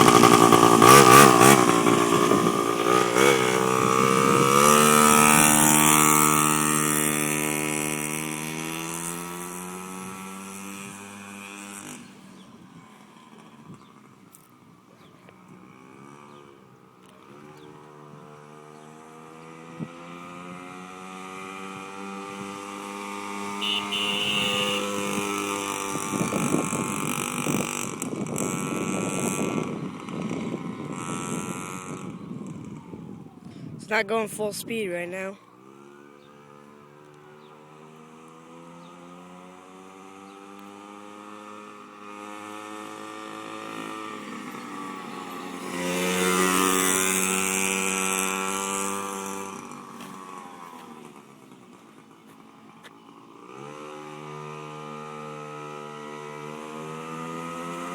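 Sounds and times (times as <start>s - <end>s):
small two-stroke engine running: 0.0s - 14.2s, 15.3s - 57.9s.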